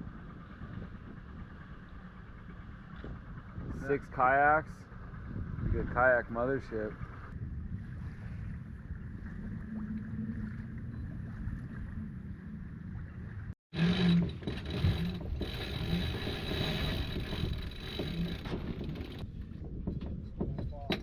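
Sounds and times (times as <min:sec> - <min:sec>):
boat under way on water: 0:00.0 - 0:21.0.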